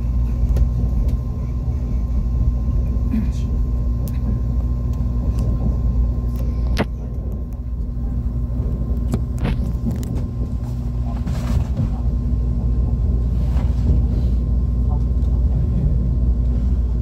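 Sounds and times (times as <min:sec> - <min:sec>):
train interior rumble and hum: 0:00.0 - 0:17.0.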